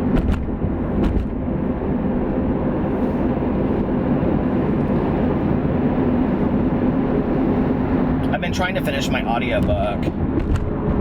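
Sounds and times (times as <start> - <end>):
car cabin road and engine hum: 0.0 - 11.0.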